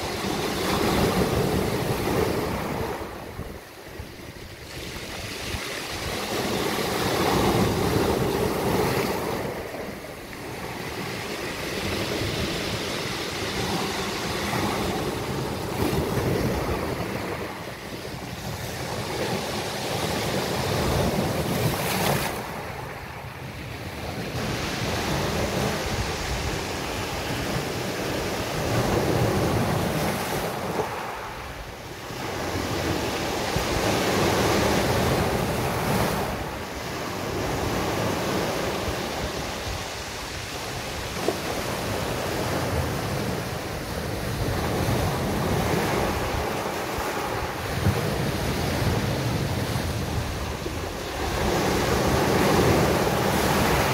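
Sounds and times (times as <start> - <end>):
sea waves breaking on beach: 0.0 - 53.9
wind buffeting microphone: 0.0 - 53.9.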